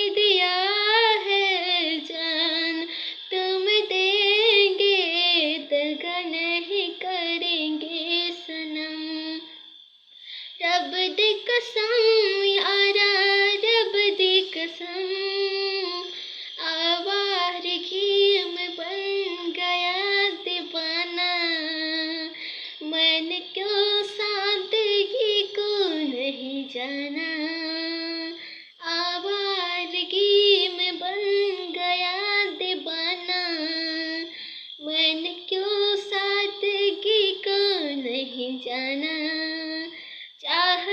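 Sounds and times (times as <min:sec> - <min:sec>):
boy singing: 0:00.0 - 0:09.6, 0:10.4 - 0:40.9.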